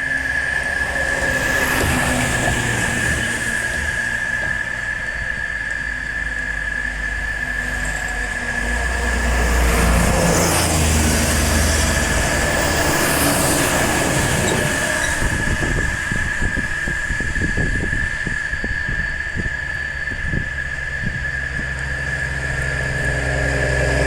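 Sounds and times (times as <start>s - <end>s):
high-pitched insect drone: 0.0s - 24.0s
passing vehicle: 0.0s - 24.0s.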